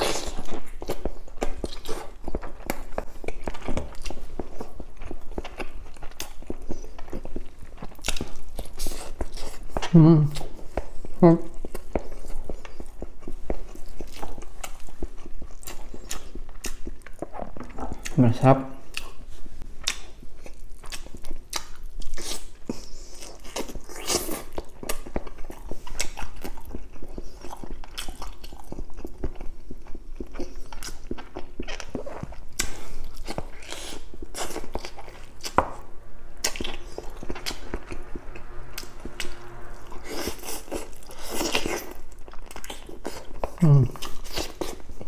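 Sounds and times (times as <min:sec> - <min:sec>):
person chewing: 0:00.0 - 0:45.0.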